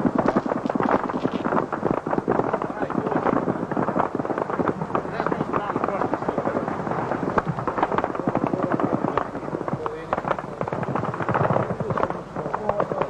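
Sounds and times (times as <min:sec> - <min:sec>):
small-arms and machine-gun fire: 0:00.0 - 0:13.0.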